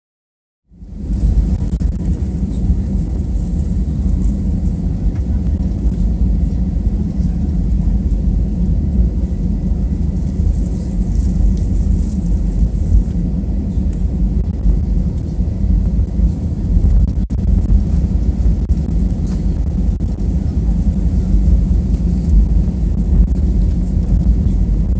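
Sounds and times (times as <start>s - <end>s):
airplane cabin engine rumble: 0.7s - 24.9s
faint steady whine: 0.7s - 24.9s.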